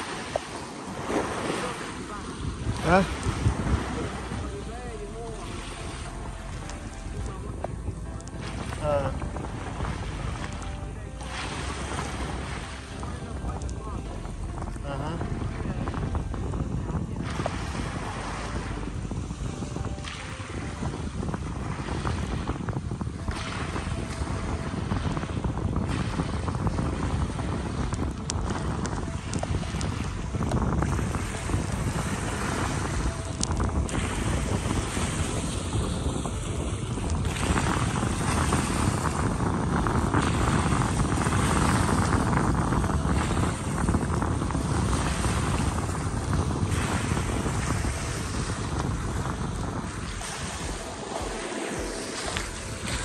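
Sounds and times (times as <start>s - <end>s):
choppy sea: 0.0s - 53.0s
wind buffeting microphone: 0.0s - 53.0s.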